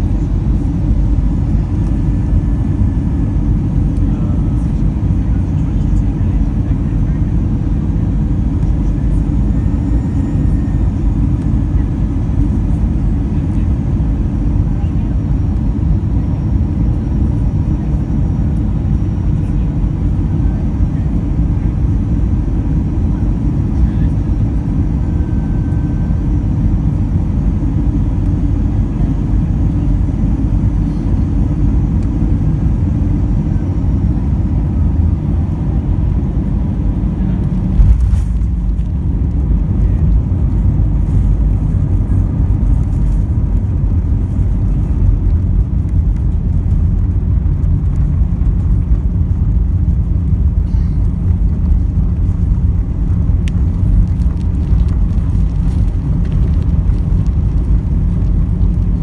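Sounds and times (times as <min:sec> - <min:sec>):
aircraft engine and airflow noise: 0:00.0 - 0:59.0
light rattling in cabin: 0:00.1 - 0:59.0.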